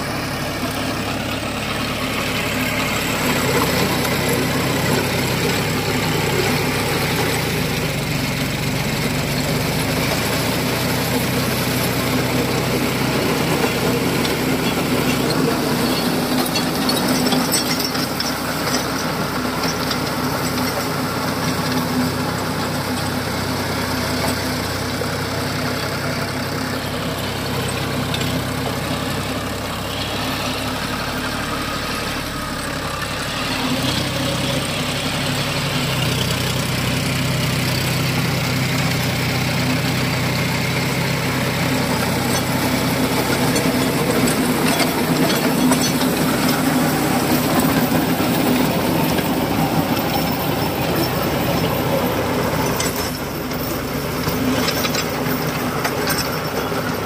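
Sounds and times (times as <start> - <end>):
rotavator tines churning soil: 0.0 - 57.0
tractor diesel engine running: 0.0 - 57.0.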